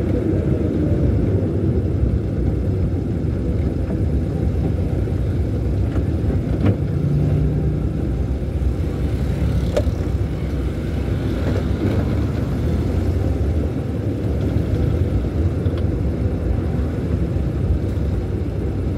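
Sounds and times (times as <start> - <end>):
car engine and tyre rumble: 0.0 - 18.9.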